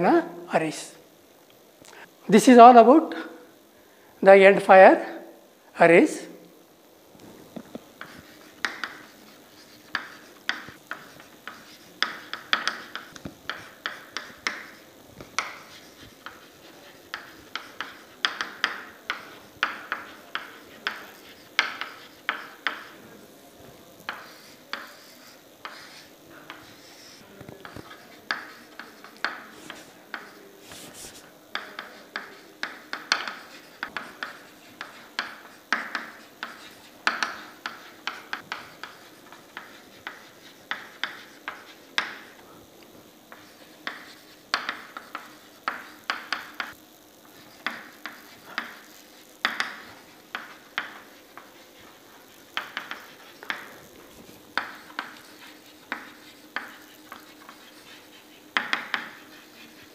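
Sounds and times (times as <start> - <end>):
faint steady hum: 0.0 - 59.9
chalk writing on a chalkboard: 8.0 - 23.2, 24.0 - 42.4, 43.3 - 59.9.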